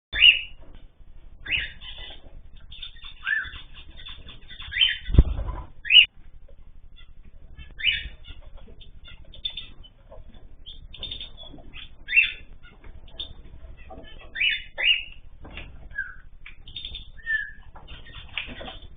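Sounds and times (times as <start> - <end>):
birds chirping: 0.1 - 18.9.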